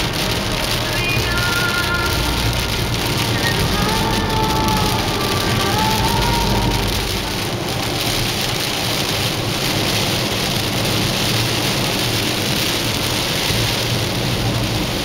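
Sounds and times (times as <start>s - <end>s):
heavy rain on car windshield: 0.0s - 15.0s
low road rumble: 0.0s - 15.0s
tyres hissing on wet road: 0.0s - 15.0s.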